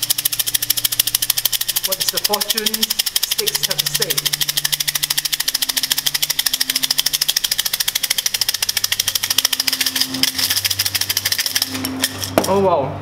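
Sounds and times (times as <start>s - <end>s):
sticks rattling in shaken cylinder: 0.0s - 12.6s.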